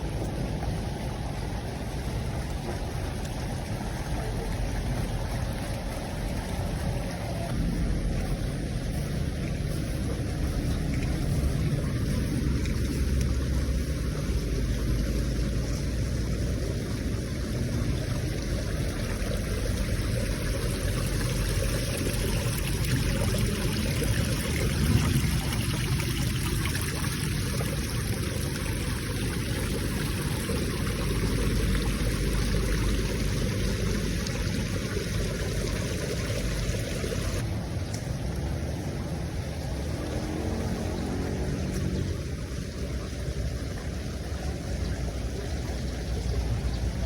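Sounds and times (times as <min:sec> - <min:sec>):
water rushing with low rumble: 0:00.0 - 0:47.0.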